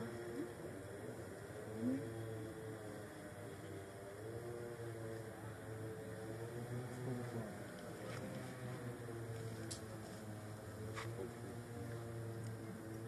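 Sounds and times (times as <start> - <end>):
faint steady engine hum: 0.0 - 13.0.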